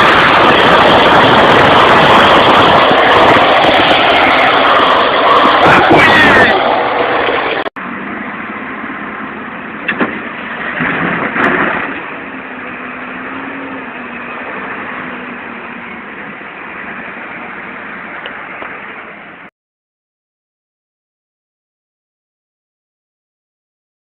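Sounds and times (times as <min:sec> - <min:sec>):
vehicle engine running: 0:00.0 - 0:19.5.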